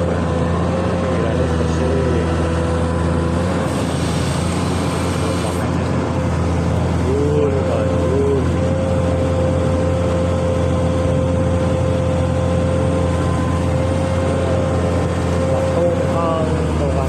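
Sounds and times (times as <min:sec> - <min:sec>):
excavator engine running: 0:00.0 - 0:17.0
steady whine: 0:00.0 - 0:17.0.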